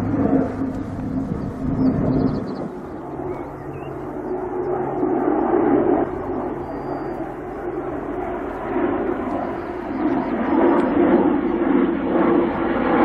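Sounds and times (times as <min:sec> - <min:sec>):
turboprop aircraft engines droning: 0:00.0 - 0:13.0.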